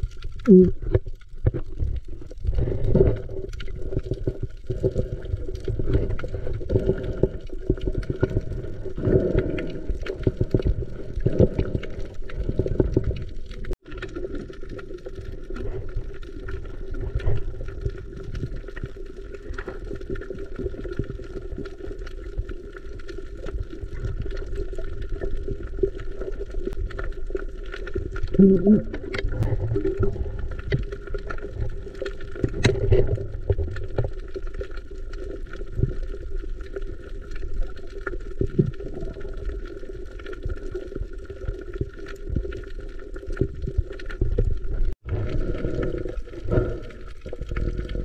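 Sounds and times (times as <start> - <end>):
water sloshing and gurgling: 0.0 - 48.0.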